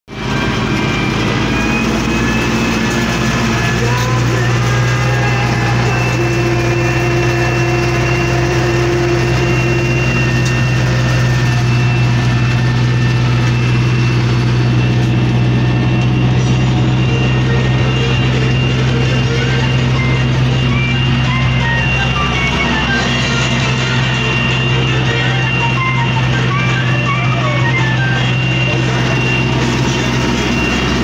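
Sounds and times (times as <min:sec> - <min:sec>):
tractor diesel engine droning: 0:00.1 - 0:31.0.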